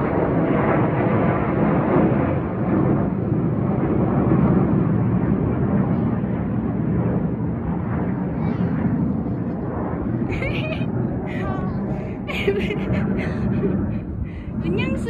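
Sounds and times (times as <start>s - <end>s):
jet engines overhead: 0.0s - 15.0s.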